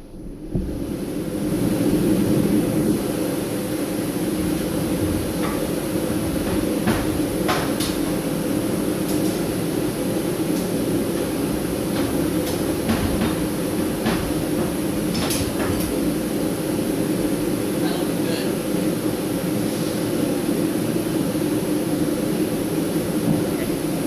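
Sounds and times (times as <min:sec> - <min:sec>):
forge running noise: 0:00.0 - 0:24.0.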